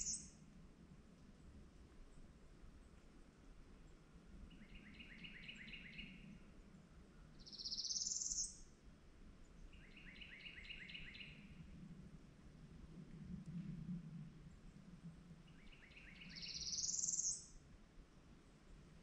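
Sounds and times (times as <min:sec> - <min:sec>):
faint low background rumble: 0:00.0 - 0:19.0.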